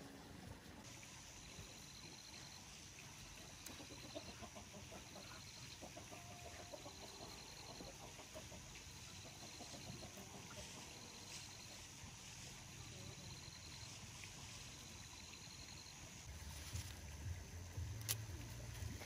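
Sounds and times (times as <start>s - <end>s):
steady high hiss: 0.0s - 19.0s
chickens clucking faintly: 1.5s - 19.0s.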